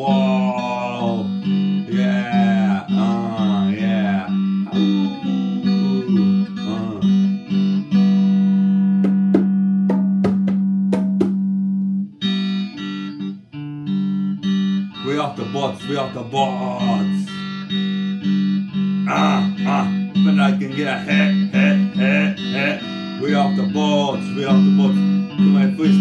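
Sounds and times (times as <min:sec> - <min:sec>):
electric guitar chords: 0:00.0 - 0:26.0.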